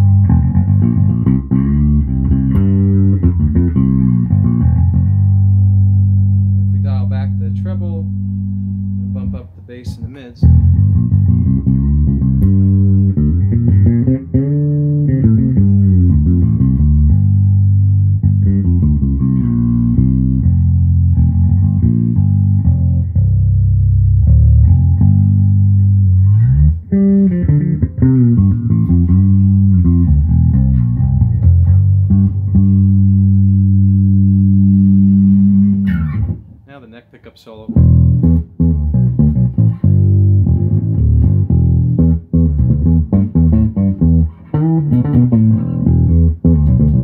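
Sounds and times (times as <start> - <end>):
fretless electric bass sliding: 0.0 - 36.7, 37.6 - 47.0.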